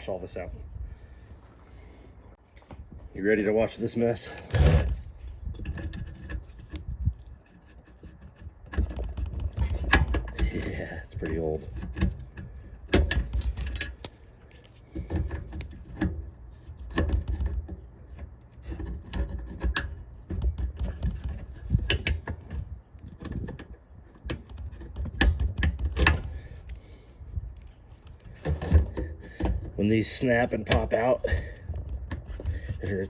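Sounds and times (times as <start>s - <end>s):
wind rumble on microphone: 0.0s - 1.9s, 4.5s - 14.0s, 14.9s - 33.0s
hand tools clicking and scraping metal: 3.8s - 33.0s.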